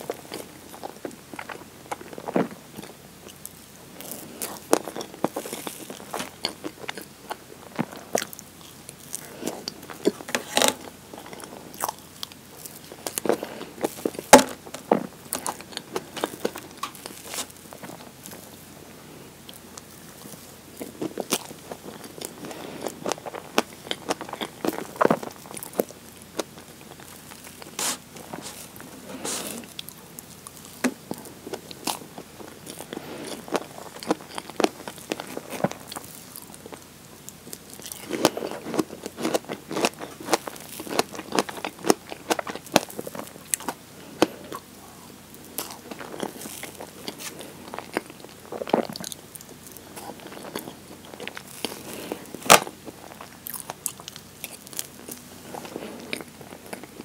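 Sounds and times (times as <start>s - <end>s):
wet chewing and mouth sounds: 0.0s - 57.0s.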